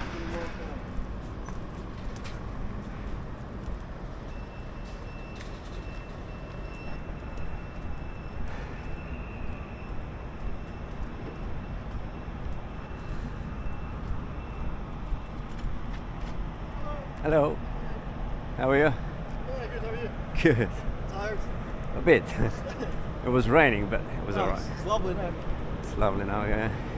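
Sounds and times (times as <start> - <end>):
traffic rumble: 0.0 - 26.9.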